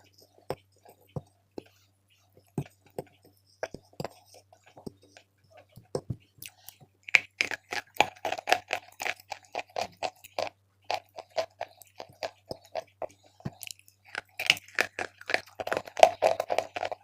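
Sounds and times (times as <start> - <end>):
chalk being bitten and chewed: 0.0 - 17.0.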